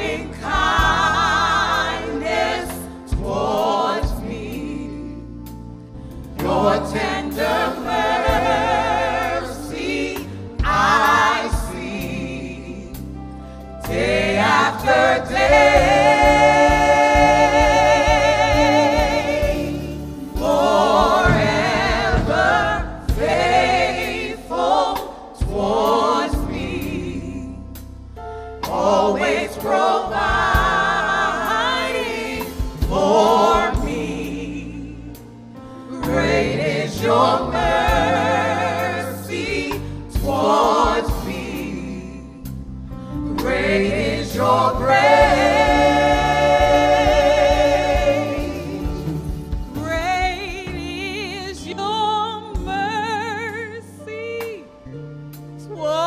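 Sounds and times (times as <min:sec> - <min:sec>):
gospel vocal ensemble singing: 0:00.0 - 0:56.0.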